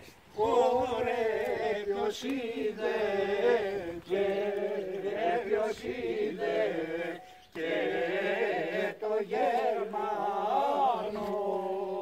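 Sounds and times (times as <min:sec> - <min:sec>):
voices singing unaccompanied: 0:00.0 - 0:12.0.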